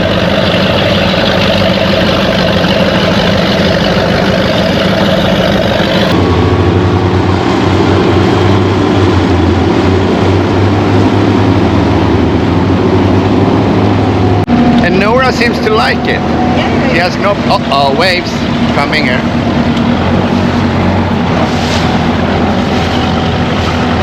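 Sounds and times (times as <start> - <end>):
motorboat engine running: 0.0 - 24.0.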